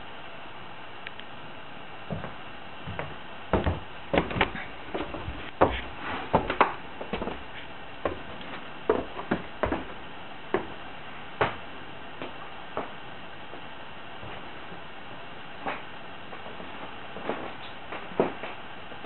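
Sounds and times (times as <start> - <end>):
knocks and clunks in room: 2.0 - 14.9, 15.6 - 18.7.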